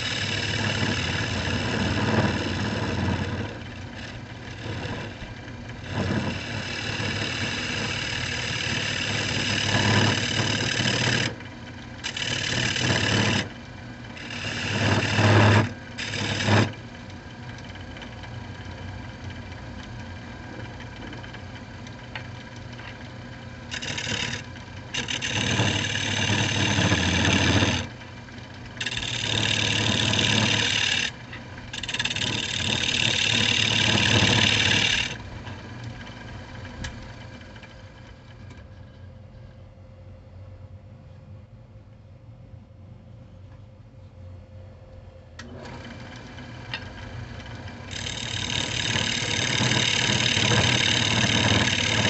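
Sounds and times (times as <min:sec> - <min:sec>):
lathe motor humming: 0:00.0 - 0:18.6, 0:19.2 - 0:38.6, 0:45.4 - 0:52.0
tool scraping spinning wood: 0:00.0 - 0:21.6, 0:22.4 - 0:39.0, 0:45.4 - 0:52.0.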